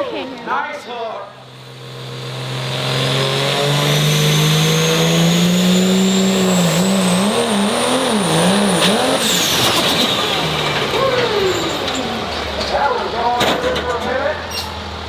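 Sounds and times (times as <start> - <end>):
diesel engine at full throttle: 0.0 - 15.0.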